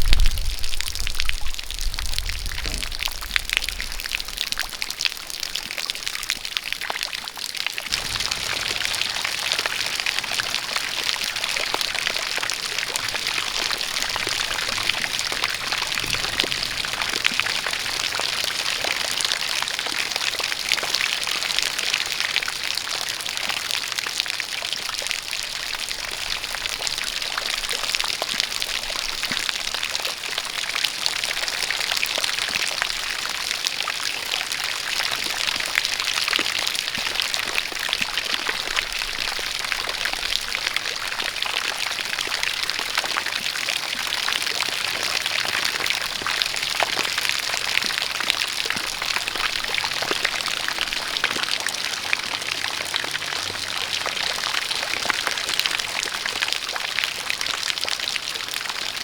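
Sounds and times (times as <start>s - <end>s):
pouring stream of water: 0.0s - 59.0s
rain pattering: 0.0s - 59.0s.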